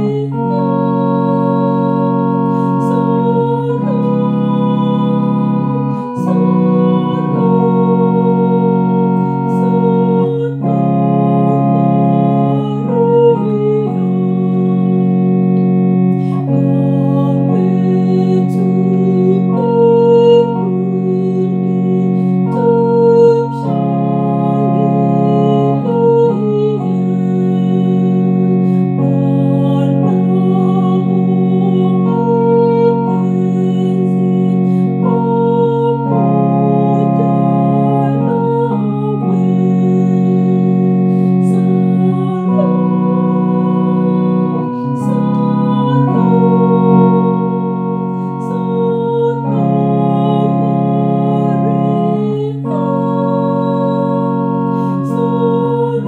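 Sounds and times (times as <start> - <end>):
electronic organ playing hymn chords: 0.0 - 56.0.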